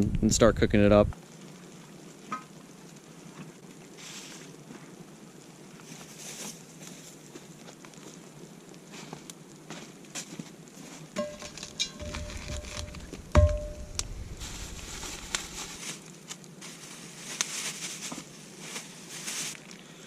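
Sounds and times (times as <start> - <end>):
campfire hissing: 1.1 - 20.0
campfire pops and crackles: 1.1 - 20.0.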